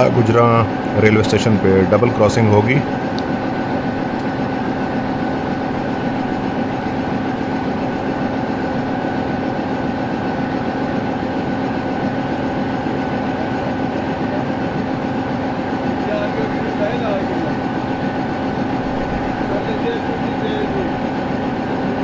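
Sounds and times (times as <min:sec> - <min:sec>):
diesel train engine idling: 0:00.0 - 0:22.0.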